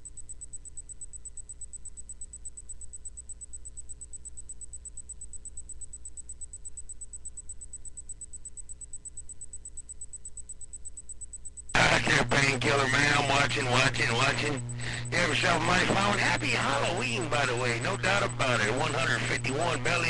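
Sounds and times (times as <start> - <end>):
low electrical hum and hiss: 0.0 - 20.0
thin high-pitched whine: 0.0 - 20.0.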